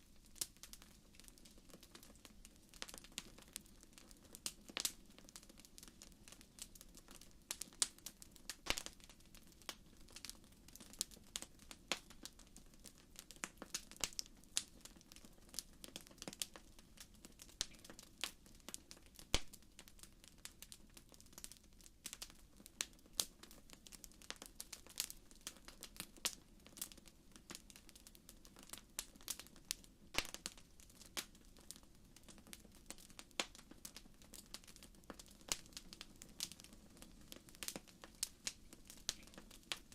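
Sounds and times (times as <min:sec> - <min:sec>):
faint steady hiss: 0:00.0 - 0:39.9
wood fire crackling and popping: 0:00.0 - 0:39.9.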